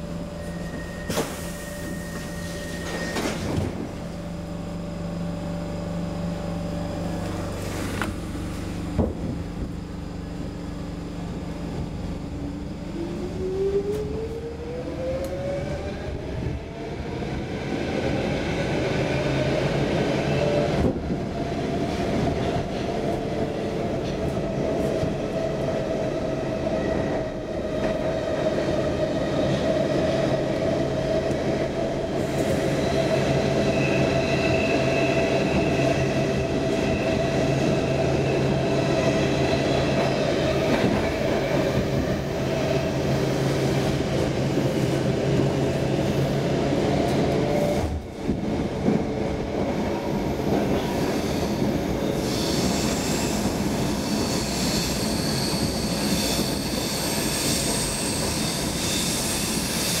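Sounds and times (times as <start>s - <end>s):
train car whine: 0.0s - 60.0s.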